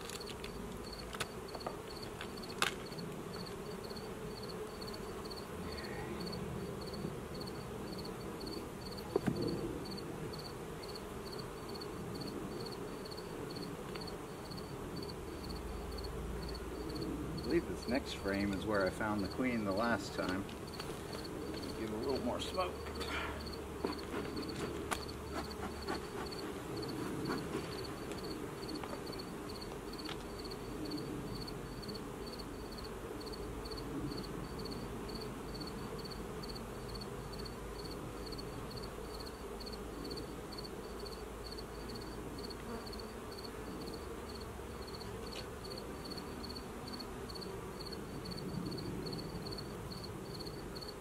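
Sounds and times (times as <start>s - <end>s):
bees buzzing: 0.0s - 51.0s.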